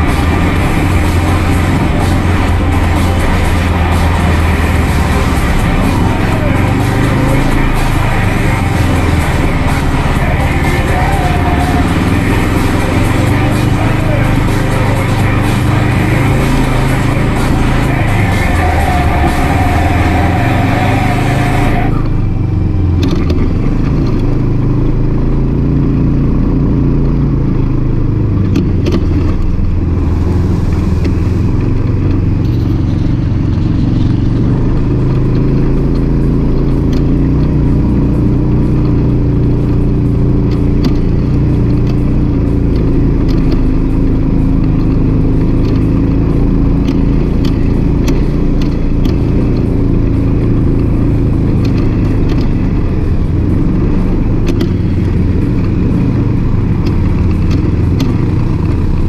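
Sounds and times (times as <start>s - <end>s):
music: 0.0s - 25.2s, 28.6s - 59.0s
utv engine running: 0.0s - 59.0s.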